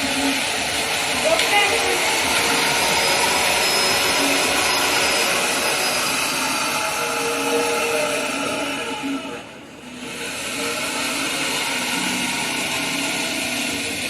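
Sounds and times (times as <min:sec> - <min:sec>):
workshop machine motor hissing: 0:00.0 - 0:14.0.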